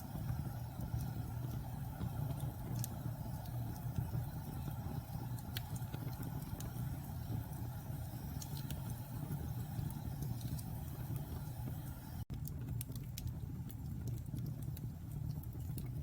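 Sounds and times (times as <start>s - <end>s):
low rumble of fire: 0.0s - 16.0s
wood crackling and popping: 0.0s - 16.0s.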